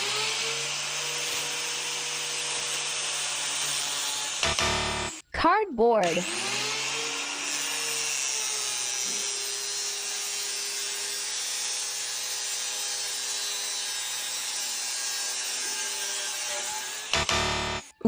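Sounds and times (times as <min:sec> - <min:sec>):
power saw cutting cardboard: 0:00.0 - 0:05.2, 0:06.0 - 0:18.0.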